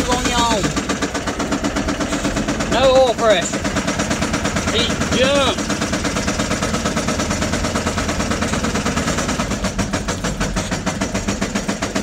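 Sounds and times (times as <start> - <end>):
diesel engine with rod knock: 0.0 - 12.0.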